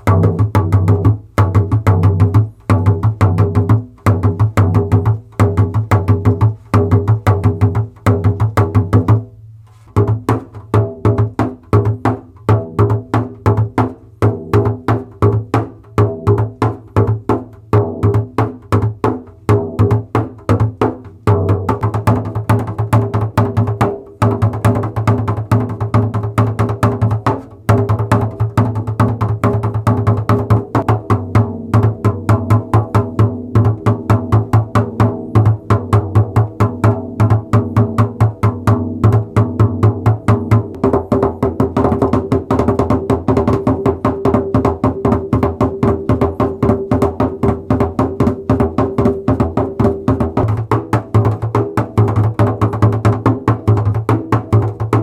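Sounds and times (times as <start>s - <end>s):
frame drum strokes and slaps: 0.0s - 55.0s.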